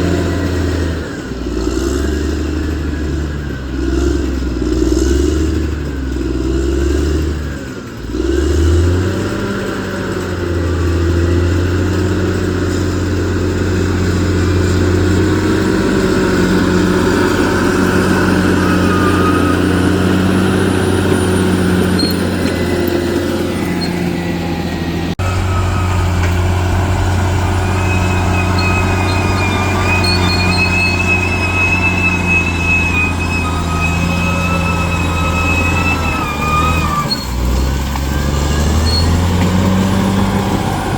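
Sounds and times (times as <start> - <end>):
bulldozer diesel engine drone: 0.0 - 40.9.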